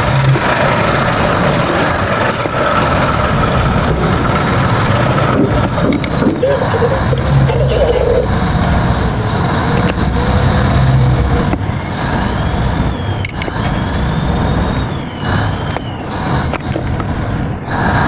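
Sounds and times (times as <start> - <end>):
tugboat engine rumble: 0.0 - 18.0.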